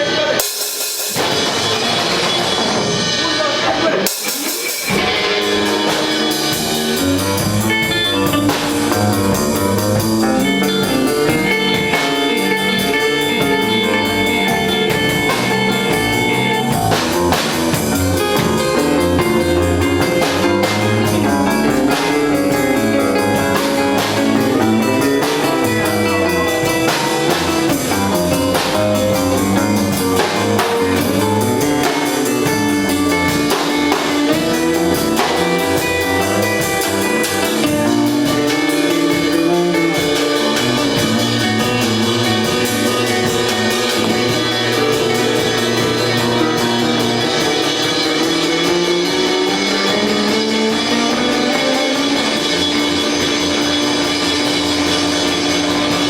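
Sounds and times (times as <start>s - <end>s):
drum kit beat: 0.0s - 56.0s
electric guitar: 0.0s - 56.0s.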